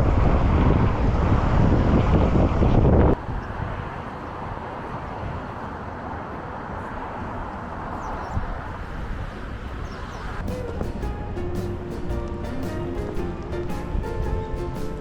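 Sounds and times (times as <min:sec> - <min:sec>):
wind buffeting microphone: 0:00.0 - 0:05.8, 0:06.7 - 0:15.0
steady outdoor rush: 0:00.0 - 0:15.0.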